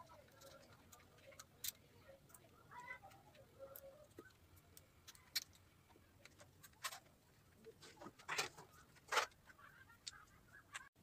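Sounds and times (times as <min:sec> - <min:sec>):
faint metallic clicks and rattles: 0:00.0 - 0:10.9.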